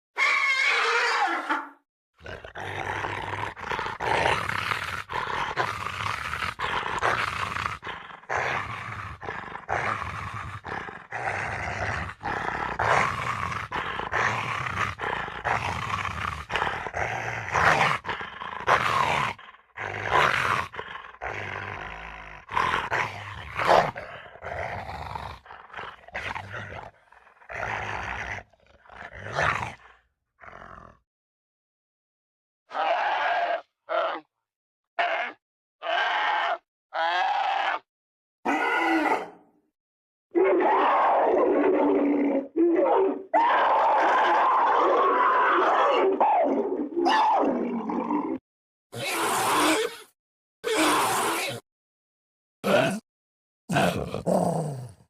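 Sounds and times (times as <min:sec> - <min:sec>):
creature growls and roars: 0:02.2 - 0:31.0, 0:32.7 - 0:34.3, 0:35.0 - 0:37.9, 0:38.5 - 0:39.5, 0:40.3 - 0:48.4, 0:49.0 - 0:51.7, 0:52.6 - 0:53.1, 0:53.7 - 0:55.0.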